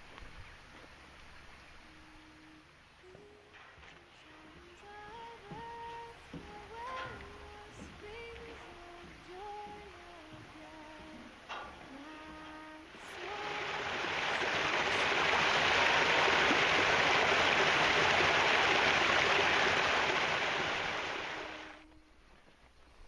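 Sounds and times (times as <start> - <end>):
brook water rushing: 0.0 - 21.8.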